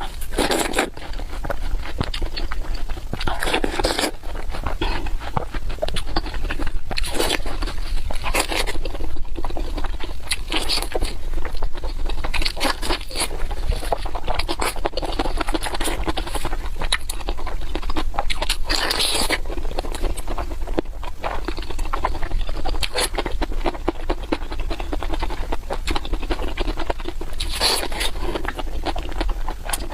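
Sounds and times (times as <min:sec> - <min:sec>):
wet chewing and crunching: 0:00.0 - 0:29.9.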